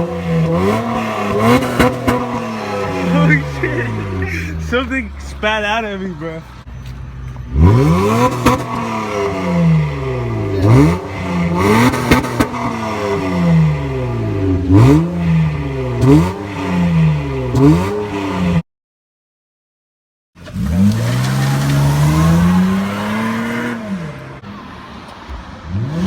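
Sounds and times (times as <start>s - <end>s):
car engine revving: 0.0s - 18.6s, 20.4s - 26.0s.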